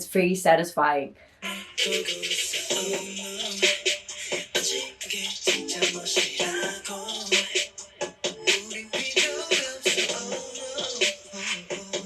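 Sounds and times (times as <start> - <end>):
pop song with vocals: 1.2 - 12.0.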